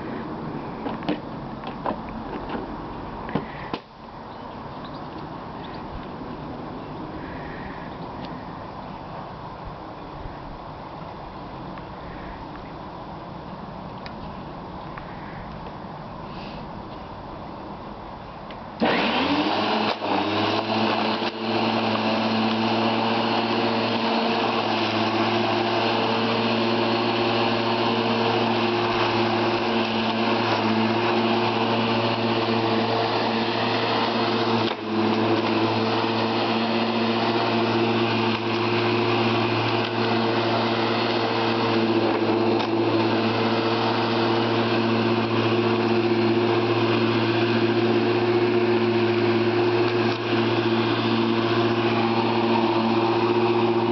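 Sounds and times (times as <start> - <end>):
lawnmower running: 0.0 - 9.3, 18.8 - 53.9.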